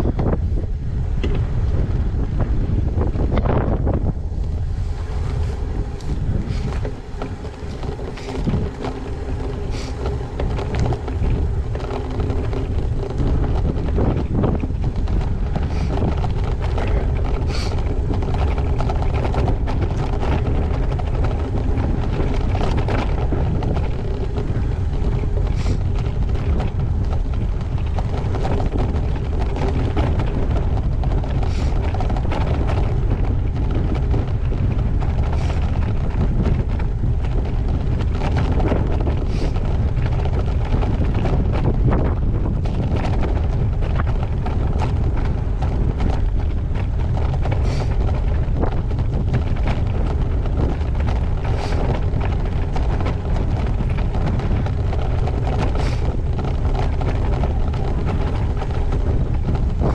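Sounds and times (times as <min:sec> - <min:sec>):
sharp clicks and rattles: 0:00.0 - 0:59.9
tyres rumbling on gravel: 0:00.0 - 0:59.9
wind buffeting microphone: 0:00.0 - 0:59.9.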